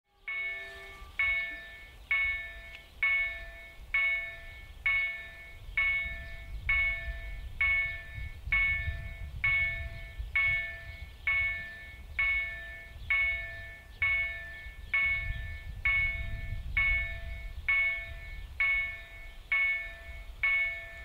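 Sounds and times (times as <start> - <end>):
level crossing warning bell: 0.1 - 21.0.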